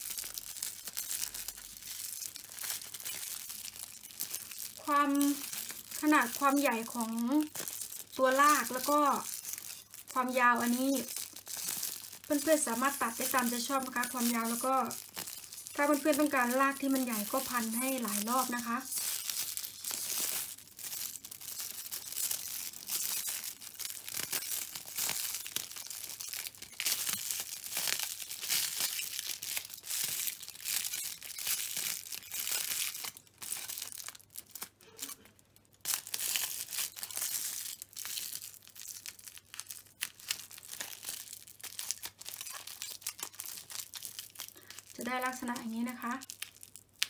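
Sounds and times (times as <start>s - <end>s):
kitchen foil crinkling: 0.0s - 47.0s.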